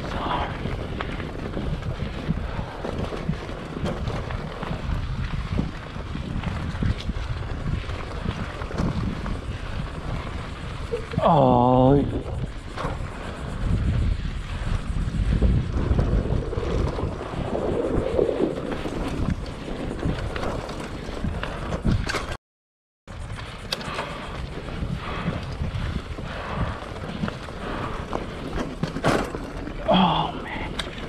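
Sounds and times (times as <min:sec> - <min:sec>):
tyre rumble: 0:00.0 - 0:22.4, 0:23.1 - 0:31.0
wind buffeting microphone: 0:00.0 - 0:22.4, 0:23.1 - 0:31.0
bike knocks and rattles: 0:00.1 - 0:17.6, 0:18.2 - 0:22.4, 0:23.2 - 0:31.0.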